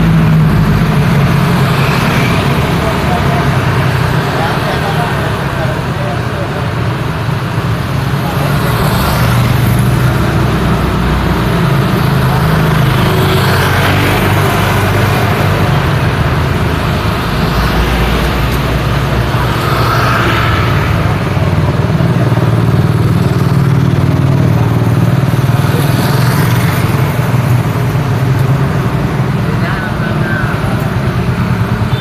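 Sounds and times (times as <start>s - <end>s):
traffic engine rumble: 0.0s - 32.0s
vehicles passing close by: 0.0s - 32.0s.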